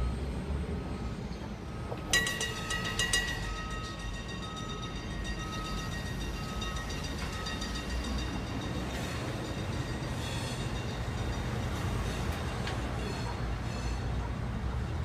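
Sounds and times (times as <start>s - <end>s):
freight train rumbling: 0.0s - 15.0s
crossing bell ringing: 1.0s - 14.4s.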